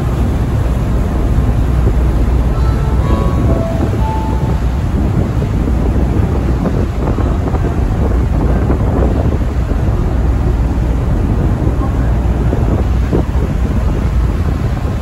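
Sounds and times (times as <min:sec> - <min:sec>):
ship engines rumbling: 0:00.0 - 0:15.0
wind buffeting microphone: 0:00.0 - 0:15.0.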